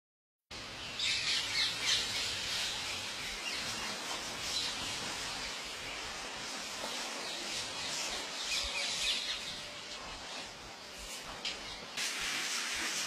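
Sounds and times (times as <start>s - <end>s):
outdoor hiss: 0.5s - 13.0s.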